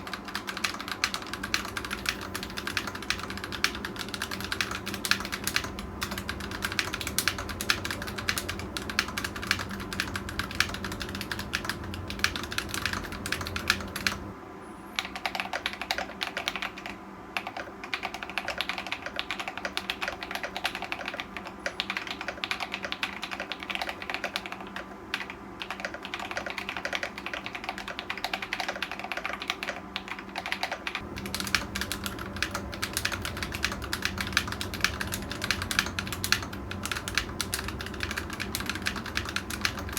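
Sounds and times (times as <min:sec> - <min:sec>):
mechanical keyboard typing: 0:00.0 - 0:14.3, 0:15.0 - 0:39.9.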